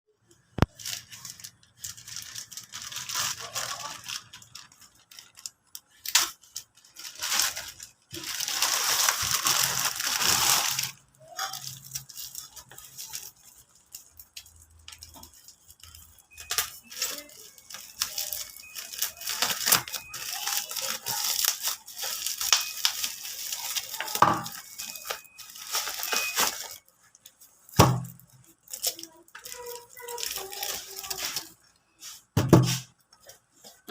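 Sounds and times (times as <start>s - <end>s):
packaging tearing and crinkling: 0.5s - 33.0s.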